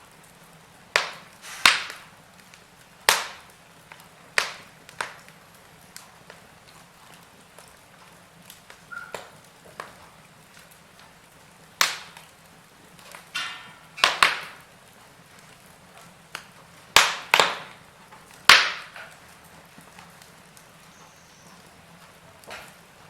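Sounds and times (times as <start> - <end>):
faint steady hiss: 0.0 - 23.0
wood fire crackling and popping: 0.0 - 23.0.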